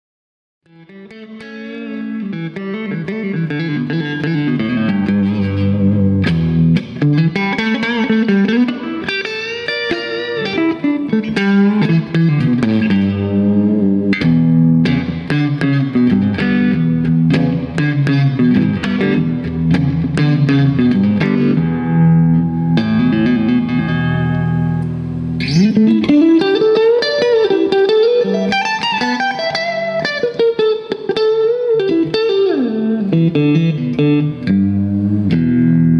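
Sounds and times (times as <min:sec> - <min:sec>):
electric guitar playing: 0:00.6 - 0:35.9.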